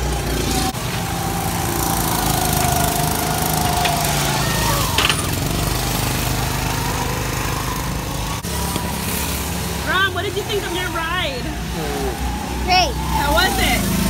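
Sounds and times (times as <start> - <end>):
go-kart engines running: 0.0 - 14.0
go-kart passing by: 0.0 - 14.0.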